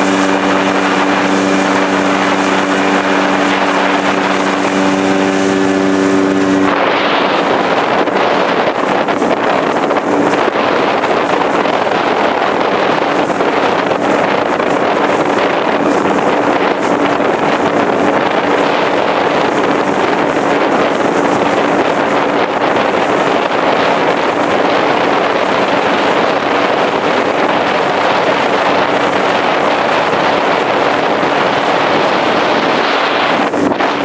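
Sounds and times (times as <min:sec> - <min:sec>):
motorboat engine drone: 0:00.0 - 0:34.0
wind noise on microphone: 0:00.0 - 0:34.0.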